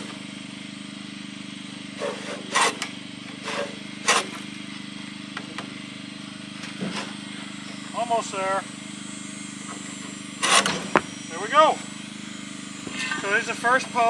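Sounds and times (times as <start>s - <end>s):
hand saw cutting timber: 0.0s - 0.4s, 1.6s - 8.6s, 9.5s - 14.0s
low engine hum: 0.0s - 14.0s.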